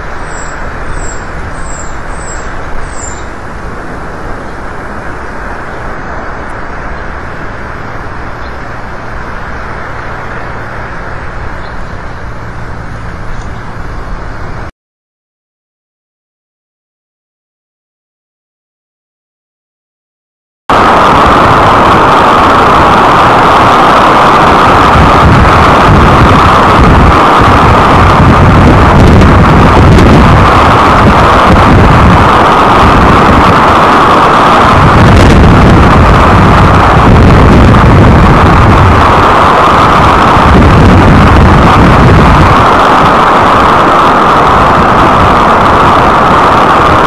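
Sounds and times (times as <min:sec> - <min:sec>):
wind gusting on microphone: 0:00.0 - 0:14.7, 0:20.7 - 0:47.0.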